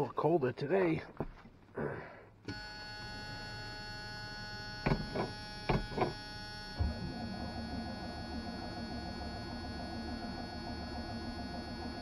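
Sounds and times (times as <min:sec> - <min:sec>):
electrical hum with whining tones: 0:01.1 - 0:12.0.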